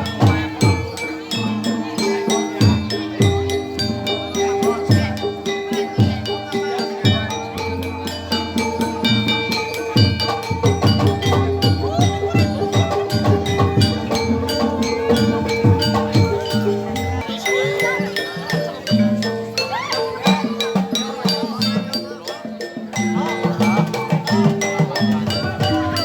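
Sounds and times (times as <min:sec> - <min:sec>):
fast hand drum strokes: 0:00.0 - 0:26.0.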